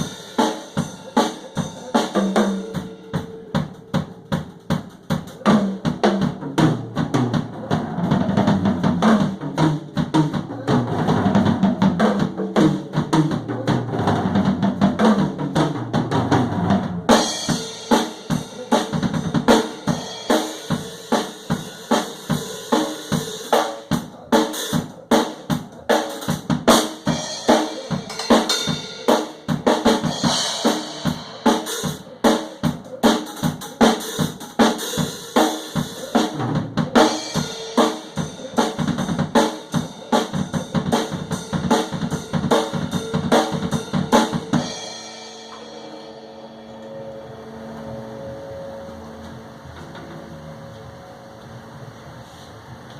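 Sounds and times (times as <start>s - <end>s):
drum kit playing: 0.0s - 48.8s.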